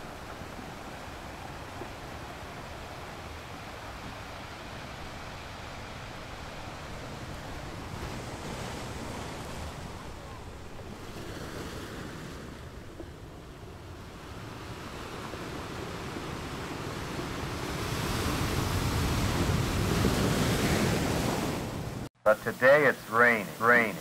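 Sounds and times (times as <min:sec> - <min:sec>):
small waves washing ashore: 0:00.0 - 0:24.0.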